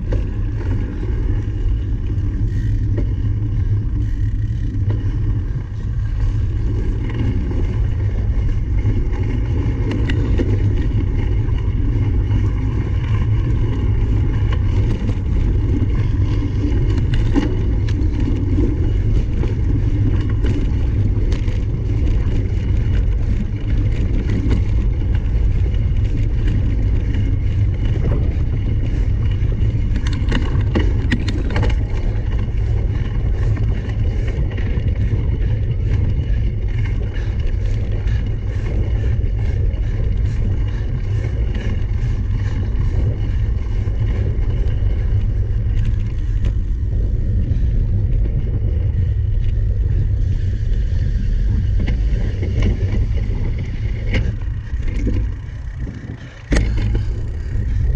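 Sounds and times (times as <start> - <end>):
bike clicks and knocks: 0.0 - 46.8, 51.6 - 57.9
wind and tyre rumble: 0.0 - 57.9.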